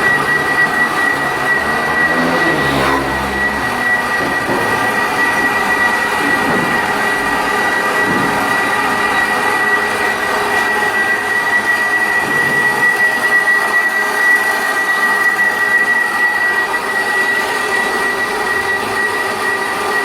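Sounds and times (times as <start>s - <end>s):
line-boring machine whining: 0.0s - 20.0s
rushing mechanical noise: 0.0s - 20.0s.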